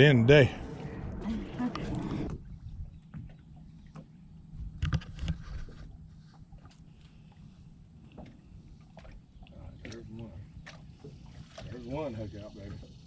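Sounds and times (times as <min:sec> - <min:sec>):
low steady rumble: 0:00.0 - 0:11.8.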